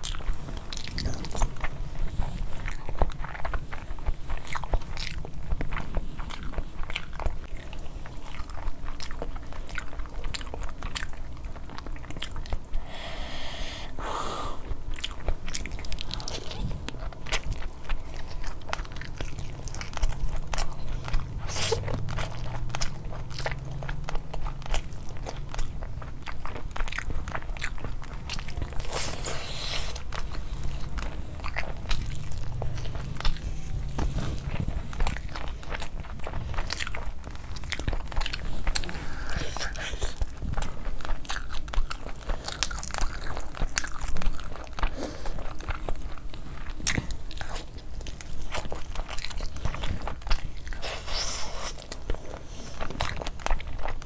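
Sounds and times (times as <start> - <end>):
biting and chewing food: 0.0 - 54.0
mouth clicks and smacks: 0.0 - 54.0.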